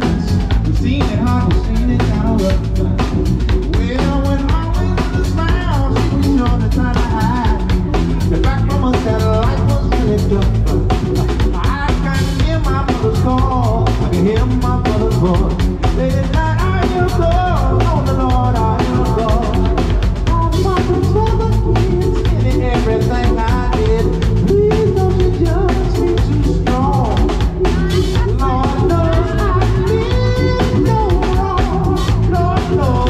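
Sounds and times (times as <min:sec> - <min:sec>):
bending melodic lead line: 0:00.0 - 0:33.0
live band playing: 0:00.0 - 0:33.0.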